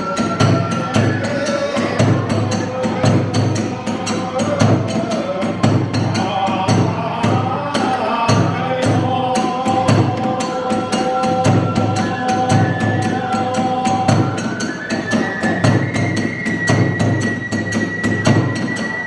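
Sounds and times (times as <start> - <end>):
bamboo flute: 0.0 - 19.0
taiko drum: 0.0 - 19.0.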